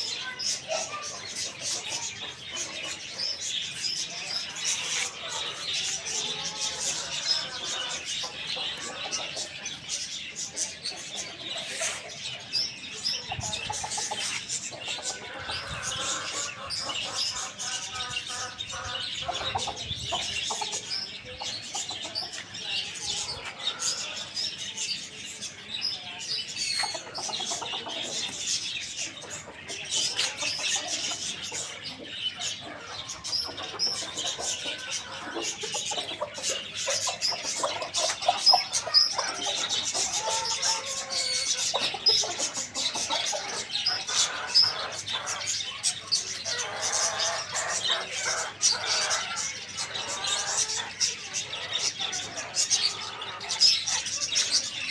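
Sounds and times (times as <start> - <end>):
chickens clucking: 0.0 - 54.9
high-pitched chick chirps: 0.0 - 54.9.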